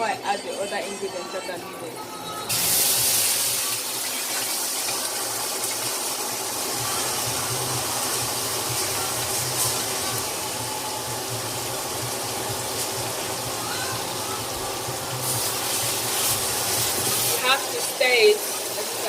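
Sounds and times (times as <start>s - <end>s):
stew sizzling in hot oil: 2.5s - 19.0s.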